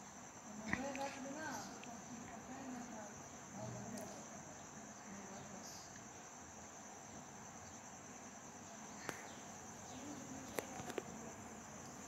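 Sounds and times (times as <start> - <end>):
cricket trill: 0.0 - 12.0.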